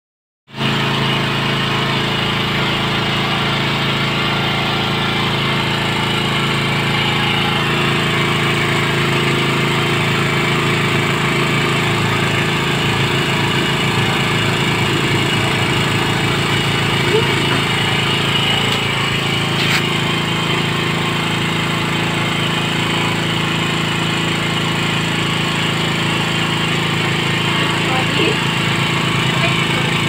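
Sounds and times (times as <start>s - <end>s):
engine droning steadily: 0.5s - 30.0s.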